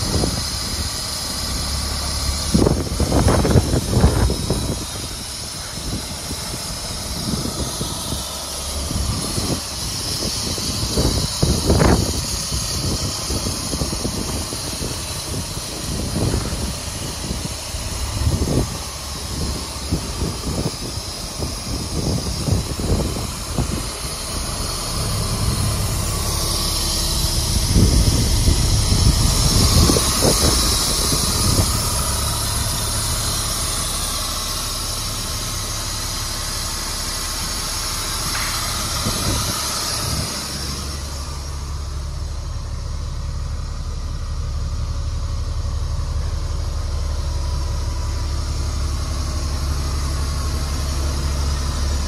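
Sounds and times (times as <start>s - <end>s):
diesel truck engine idling: 0.0s - 52.0s
low buffeting noise: 0.0s - 52.0s.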